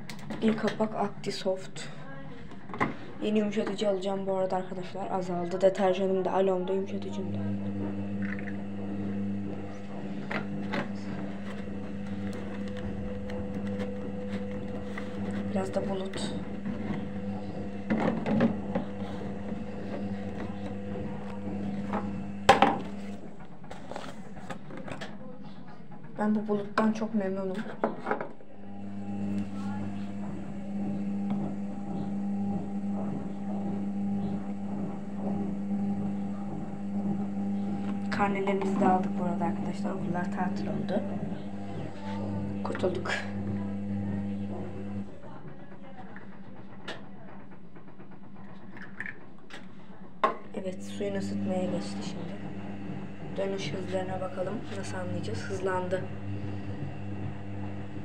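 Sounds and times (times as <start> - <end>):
washing machine motor hum: 0.0 - 25.2, 28.4 - 58.0
drum tumbling wet laundry: 7.0 - 24.7, 28.7 - 58.0.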